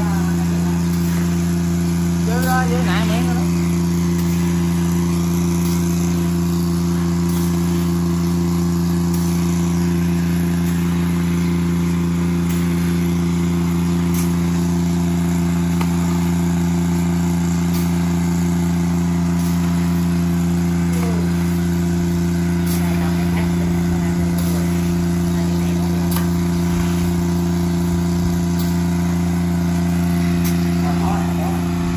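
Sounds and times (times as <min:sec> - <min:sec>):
engine droning steadily: 0:00.0 - 0:31.9.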